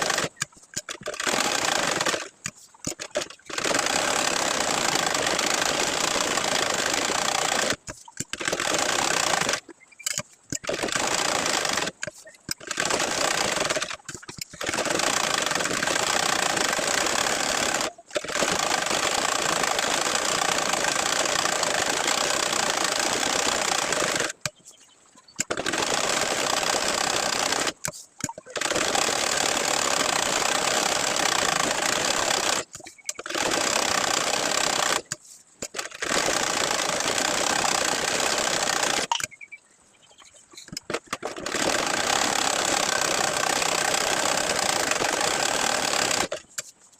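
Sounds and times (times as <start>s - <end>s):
sewing machine running: 0.0s - 24.4s, 25.4s - 39.2s, 40.7s - 46.4s.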